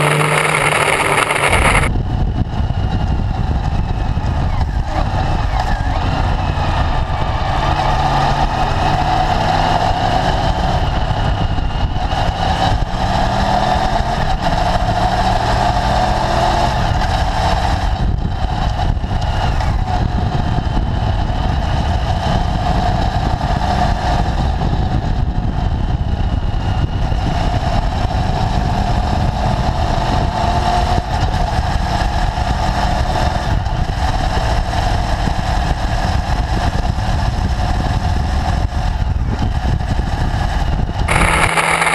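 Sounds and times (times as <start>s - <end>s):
motorcycle engine running: 0.0s - 41.9s
road noise: 0.0s - 41.9s
wind rush: 0.0s - 41.9s.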